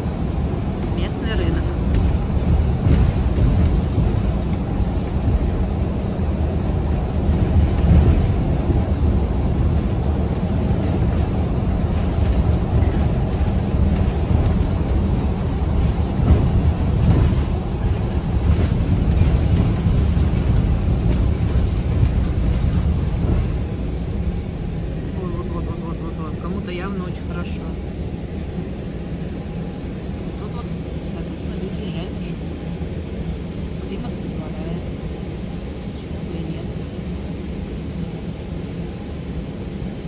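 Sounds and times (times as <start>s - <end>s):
bus interior rumble: 0.0s - 40.0s.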